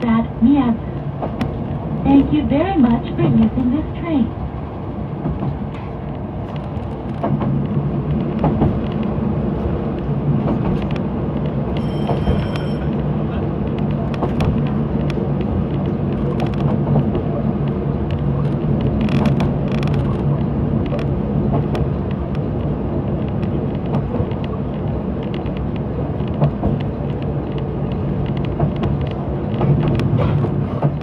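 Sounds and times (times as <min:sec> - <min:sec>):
train running from inside: 0:00.0 - 0:31.0
clicks from train wheels: 0:00.9 - 0:01.6, 0:05.2 - 0:09.1, 0:09.9 - 0:22.5, 0:23.2 - 0:31.0.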